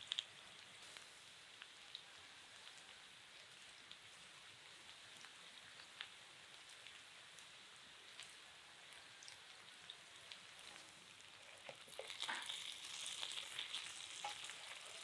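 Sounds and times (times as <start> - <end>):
fries sizzling in a pan: 0.0 - 15.0
small oil crackles: 0.0 - 15.0.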